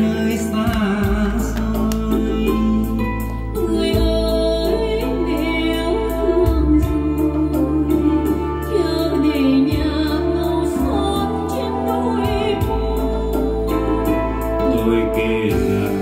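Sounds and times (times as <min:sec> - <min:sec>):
instrumental accompaniment: 0:00.0 - 0:16.0
person singing with vibrato: 0:00.0 - 0:16.0.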